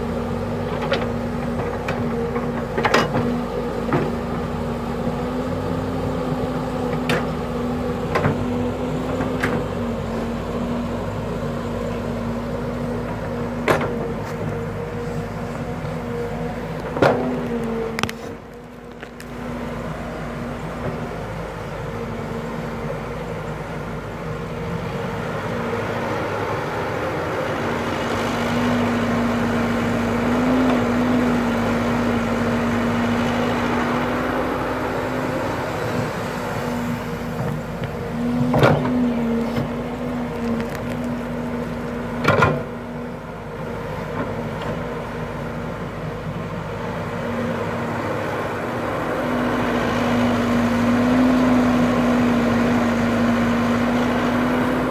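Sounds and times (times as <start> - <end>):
excavator diesel engine humming: 0.0 - 54.9.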